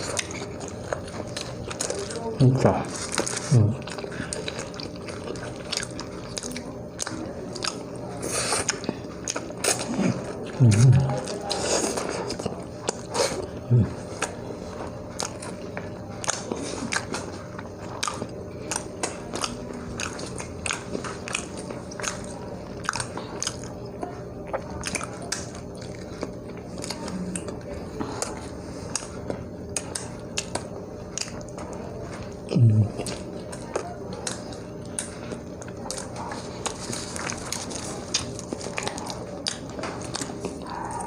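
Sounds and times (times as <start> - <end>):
chewing and biting: 0.0 - 41.0.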